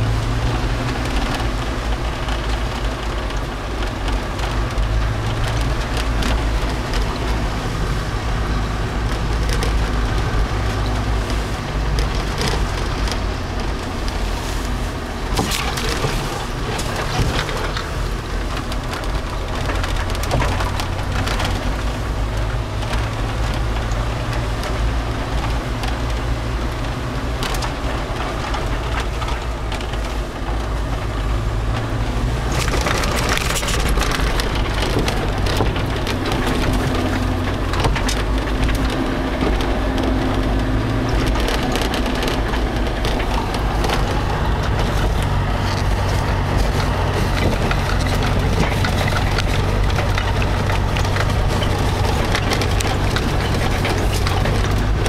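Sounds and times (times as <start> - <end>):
rain on a vehicle: 0.0 - 55.0
storm wind: 0.0 - 55.0
vehicle engine humming: 0.0 - 55.0.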